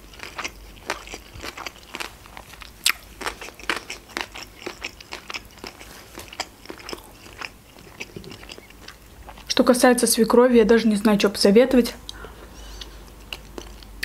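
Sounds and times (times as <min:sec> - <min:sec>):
person chewing: 0:00.0 - 0:09.6, 0:12.1 - 0:14.0.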